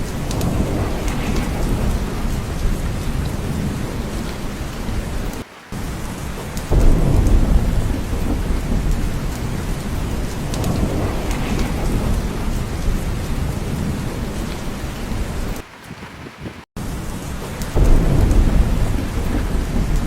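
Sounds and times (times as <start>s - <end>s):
heavy rain: 0.0s - 20.0s
rolling thunder: 0.0s - 20.0s.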